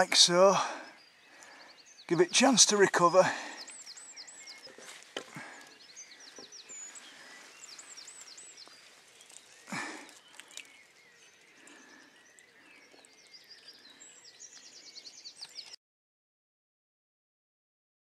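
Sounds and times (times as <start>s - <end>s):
faint outdoor background noise: 0.0s - 15.8s
songbirds chirping: 0.0s - 15.8s.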